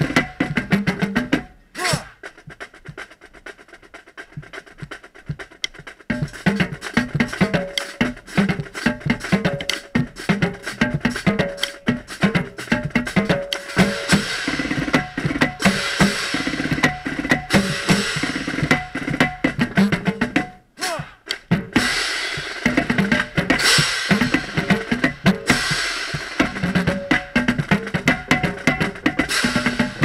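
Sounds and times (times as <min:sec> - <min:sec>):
marching drumline playing: 0:00.0 - 0:30.0.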